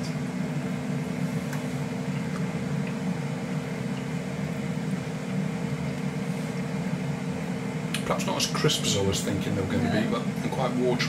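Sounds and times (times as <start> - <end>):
appliance fan motor humming: 0.0 - 11.0.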